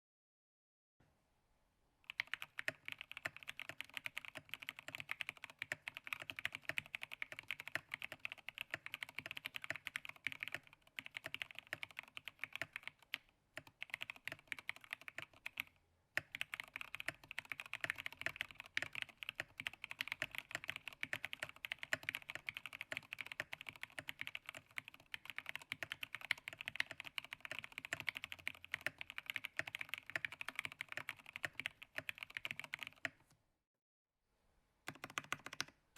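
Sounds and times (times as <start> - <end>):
fast keyboard typing: 2.1 - 33.2, 34.9 - 35.7.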